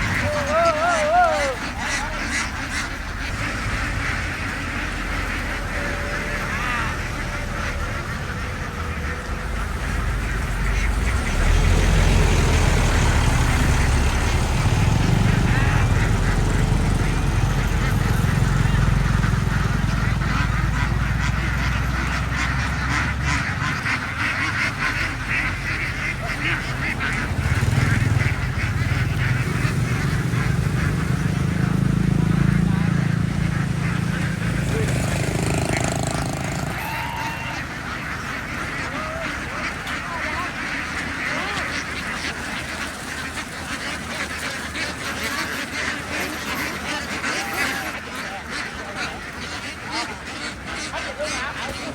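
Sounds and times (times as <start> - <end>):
flock of ducks quacking: 0.0 - 51.9.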